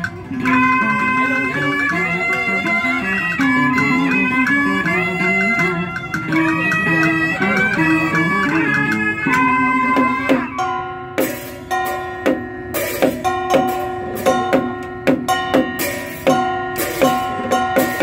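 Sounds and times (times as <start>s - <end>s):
held melody note: 0.0s - 18.0s
percussion strokes: 0.0s - 18.0s
plucked string notes: 0.0s - 18.0s.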